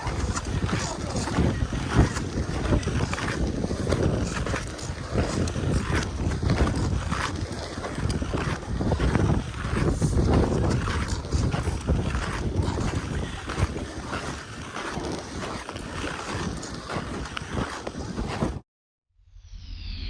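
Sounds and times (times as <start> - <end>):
ice skate blades scraping on ice: 0.0 - 18.6
wind rumble on microphone: 0.0 - 18.6.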